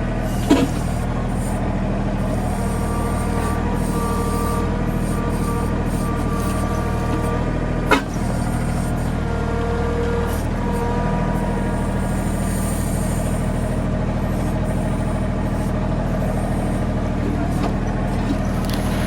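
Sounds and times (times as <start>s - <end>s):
higher whining tones: 0.0s - 19.0s
tractor diesel engine running: 0.0s - 19.0s.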